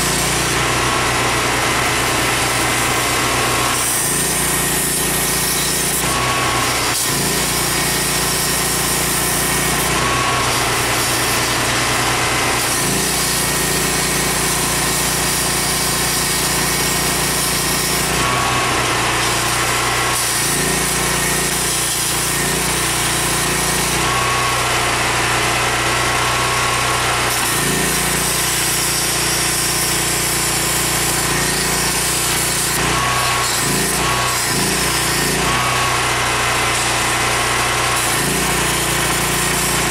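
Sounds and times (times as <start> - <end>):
pneumatic tool cutting sheet metal: 0.0 - 39.9.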